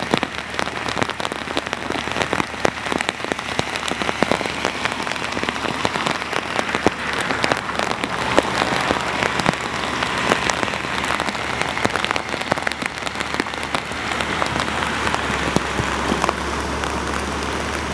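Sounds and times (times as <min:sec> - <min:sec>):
torrential rain hissing: 0:00.0 - 0:17.9.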